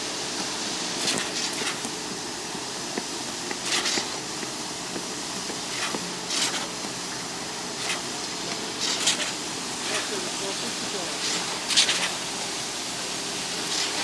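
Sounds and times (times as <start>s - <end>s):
concrete pump mechanical drone: 0.0s - 14.0s.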